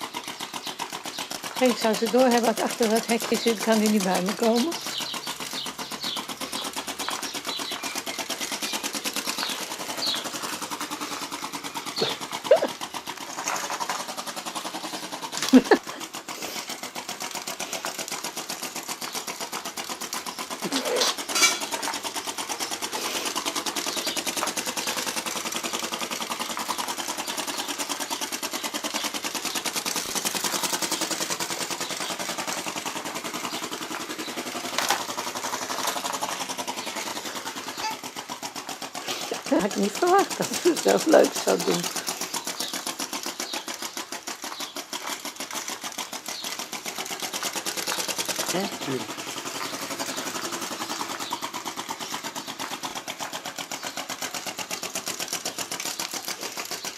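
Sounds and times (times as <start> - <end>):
model engine clattering: 0.0 - 56.9.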